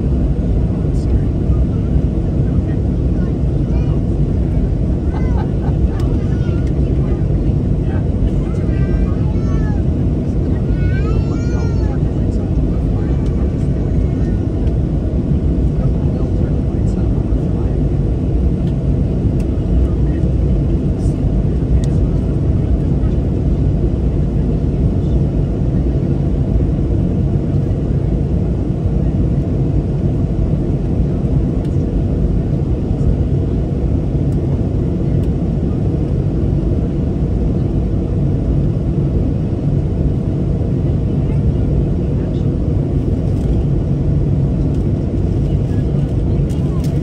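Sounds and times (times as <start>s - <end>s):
jet engine cabin rumble: 0.0s - 47.0s.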